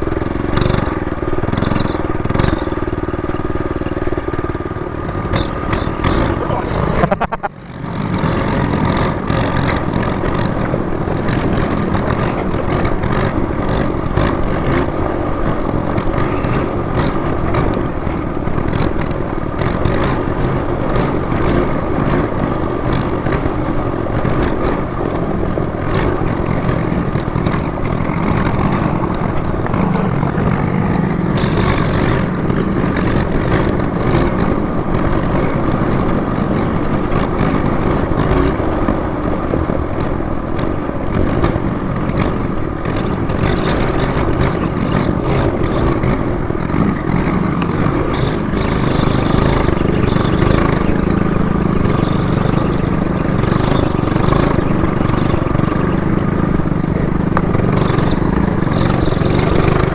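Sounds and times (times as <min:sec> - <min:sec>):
dense rushing noise: 0:00.0 - 0:59.9
motorcycle engine running: 0:00.0 - 0:59.9.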